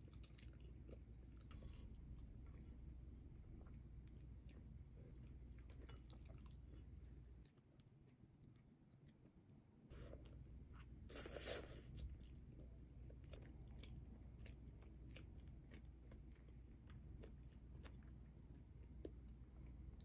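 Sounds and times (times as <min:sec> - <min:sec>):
quiet chewing: 0:00.0 - 0:20.0.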